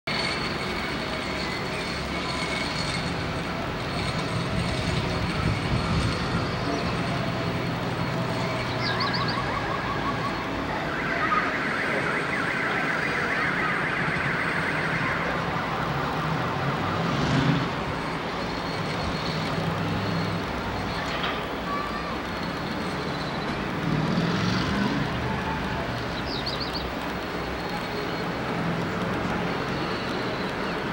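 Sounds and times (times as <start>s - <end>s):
vehicle engine hum: 0.1s - 30.9s.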